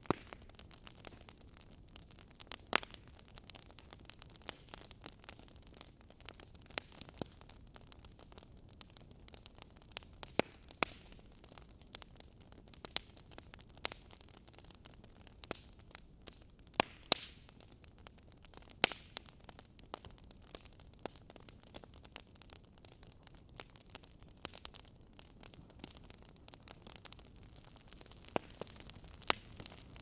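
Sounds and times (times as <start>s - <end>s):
low steady hiss: 0.0s - 30.0s
wood fire crackling and popping: 0.0s - 30.0s.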